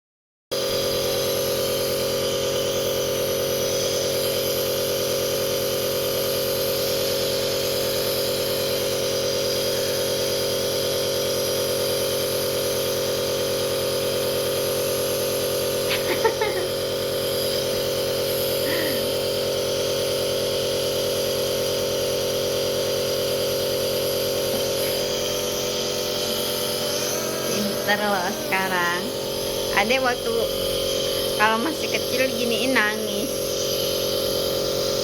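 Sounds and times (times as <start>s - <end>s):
compressor nebulizer humming: 0.6s - 35.0s.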